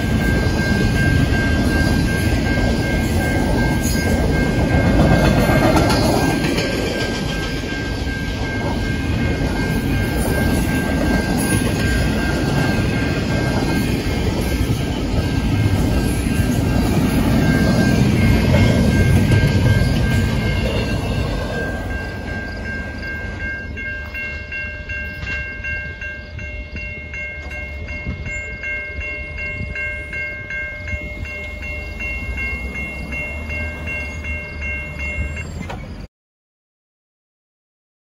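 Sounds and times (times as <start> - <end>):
level crossing bells ringing: 0.0 - 36.0
freight train rumbling past: 0.0 - 36.1.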